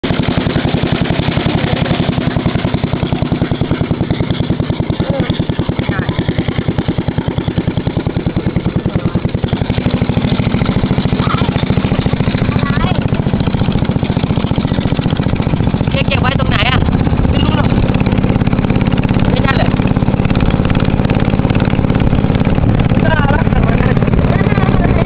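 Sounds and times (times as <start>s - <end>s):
boat engine throbbing: 0.0s - 25.0s.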